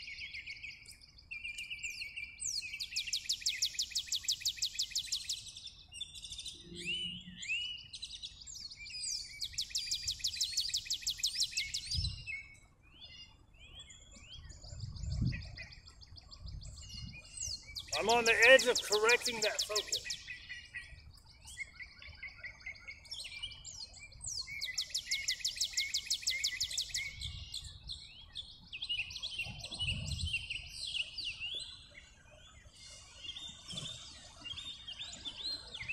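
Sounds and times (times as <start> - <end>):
bird chirps: 0.0 - 35.9
songbird trills: 0.0 - 35.9.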